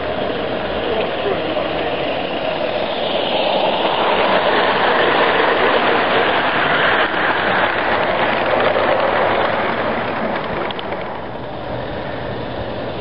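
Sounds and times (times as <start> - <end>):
steam locomotive exhaust: 0.0 - 13.0
wagon wheels running over track: 0.0 - 13.0.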